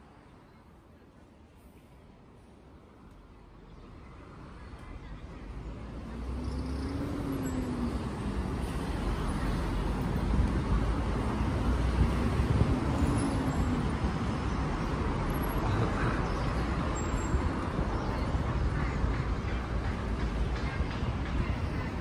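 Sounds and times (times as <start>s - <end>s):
passing vehicles: 2.6s - 22.0s.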